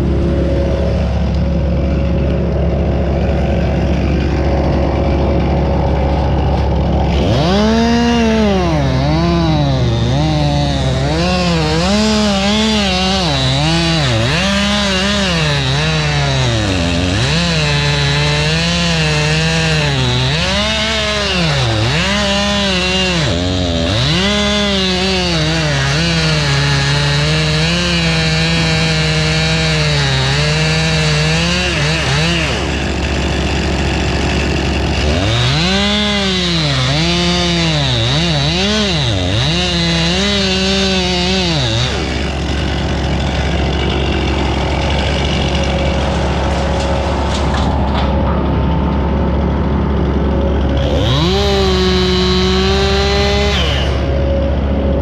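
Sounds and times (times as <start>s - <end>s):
chainsaw cutting wood: 0.0s - 48.3s, 49.2s - 55.0s
low engine drone: 0.0s - 55.0s.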